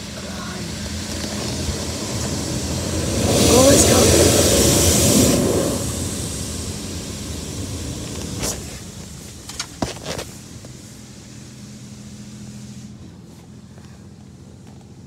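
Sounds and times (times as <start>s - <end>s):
car wash water spraying: 0.0s - 15.0s.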